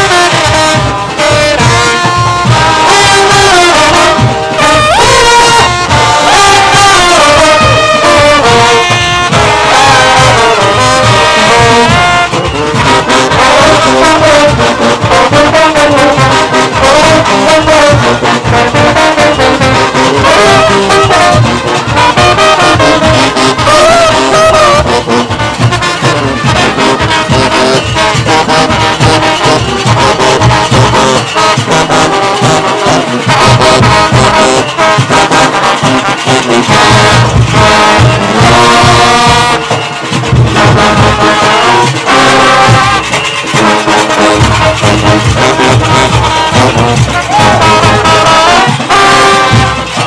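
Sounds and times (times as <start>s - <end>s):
brass section playing melody: 0.0s - 50.0s
driving drum beat: 0.0s - 50.0s.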